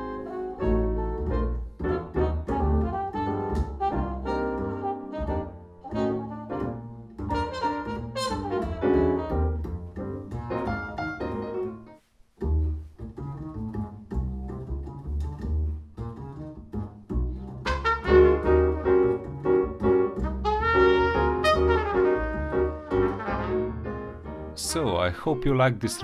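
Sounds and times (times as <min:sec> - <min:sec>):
jazz over speakers: 0:00.0 - 0:26.0.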